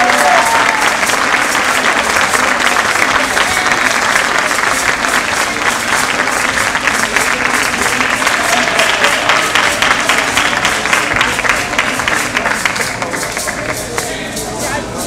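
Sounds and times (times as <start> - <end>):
audience applauding: 0.0 - 14.3.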